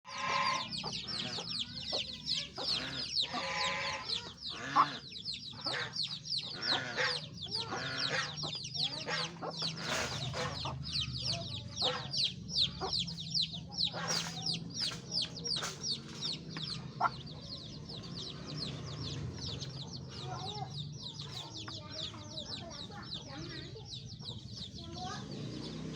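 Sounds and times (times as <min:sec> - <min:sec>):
chicks peeping: 0:00.0 - 0:25.9
hen clucking: 0:00.0 - 0:25.9.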